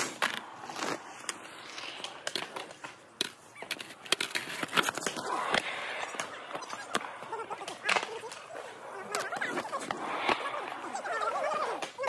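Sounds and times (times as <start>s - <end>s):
skateboard wheels rolling on concrete: 0.0s - 12.0s
skateboard clacks and knocks: 2.0s - 12.0s.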